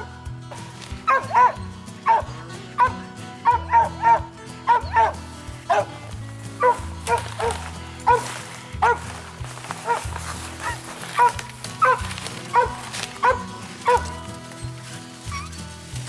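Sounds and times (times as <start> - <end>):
background music: 0.0 - 16.0
dog barking: 1.0 - 14.3.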